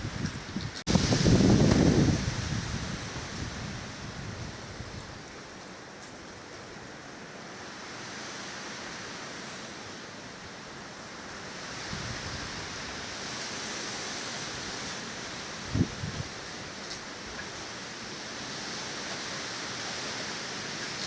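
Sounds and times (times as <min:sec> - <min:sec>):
strong wind rushing through trees: 0:00.0 - 0:21.0.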